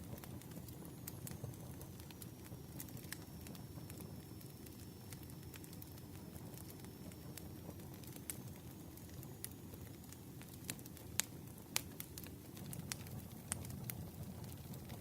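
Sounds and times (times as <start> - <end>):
campfire pops and snaps: 0.0 - 15.0
low rumble of burning wood: 0.0 - 15.0.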